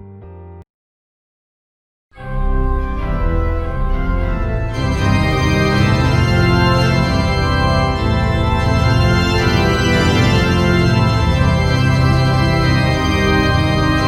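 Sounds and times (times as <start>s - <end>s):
instrumental music of held chords: 2.2s - 14.0s.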